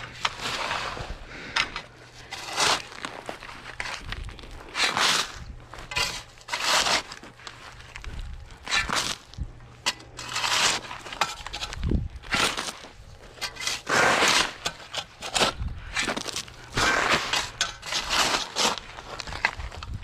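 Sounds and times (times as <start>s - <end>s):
shovel scooping gravel: 0.0s - 8.0s, 8.6s - 20.0s.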